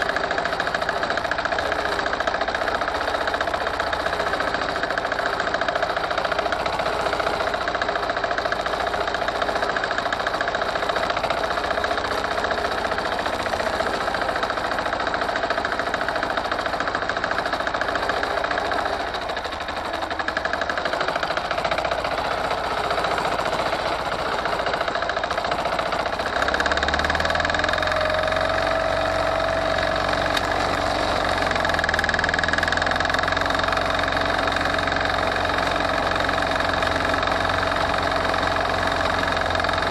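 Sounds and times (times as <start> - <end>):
diesel engine knocking clatter: 0.0 - 39.9.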